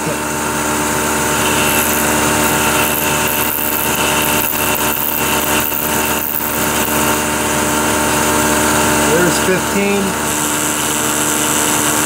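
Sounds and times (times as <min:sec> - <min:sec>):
milling machine humming and hissing: 0:00.0 - 0:12.0.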